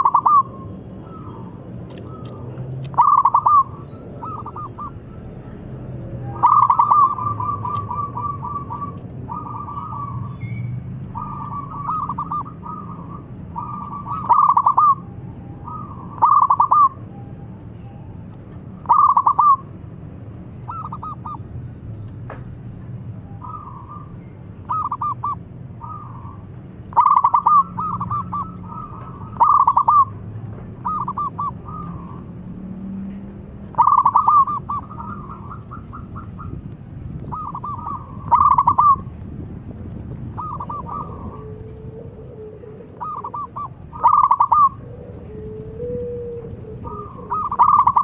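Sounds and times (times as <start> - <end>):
doves cooing: 0.0 - 17.1, 18.7 - 19.8, 20.6 - 21.5, 23.4 - 39.1, 40.2 - 48.0.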